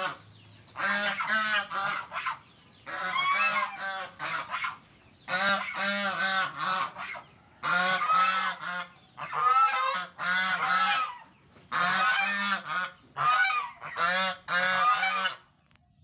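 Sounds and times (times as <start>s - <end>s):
waterfowl honking: 0.0s - 15.5s.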